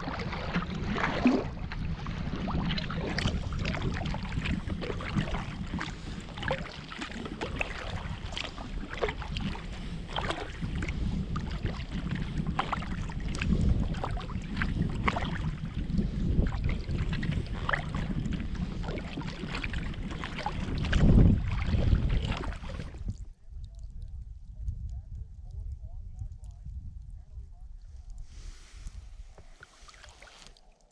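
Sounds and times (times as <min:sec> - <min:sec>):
paddle splashing in water: 0:00.0 - 0:23.3, 0:28.2 - 0:30.9
wind rumble on microphone: 0:00.0 - 0:30.9.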